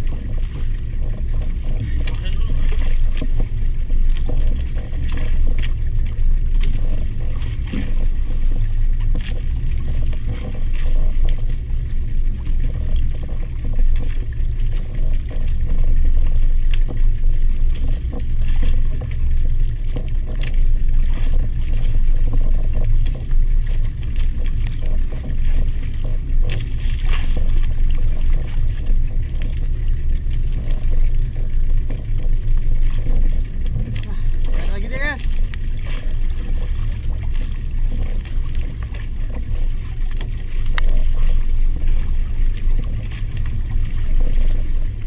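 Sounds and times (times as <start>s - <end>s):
boat engine rumble: 0.0s - 45.0s
water noise: 0.0s - 45.0s
water splashes: 0.0s - 45.0s.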